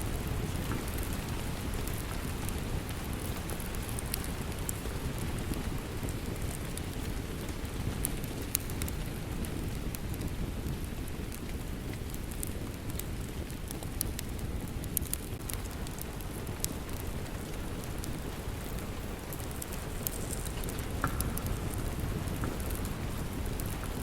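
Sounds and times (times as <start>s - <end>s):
steady rain hissing: 0.0s - 24.0s
wood fire crackling: 0.0s - 24.0s.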